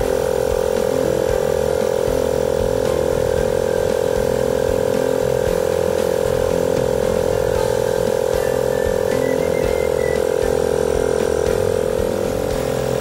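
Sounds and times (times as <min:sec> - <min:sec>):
air compressor chugging buzz: 0:00.0 - 0:13.0.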